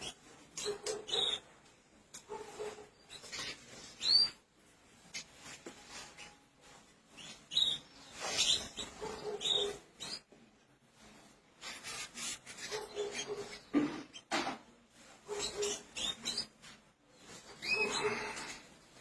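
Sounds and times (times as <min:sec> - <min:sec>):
canaries chirping: 0:00.0 - 0:10.4, 0:11.6 - 0:14.4, 0:15.0 - 0:18.9
scratching and rustling: 0:02.0 - 0:10.2, 0:10.8 - 0:19.0.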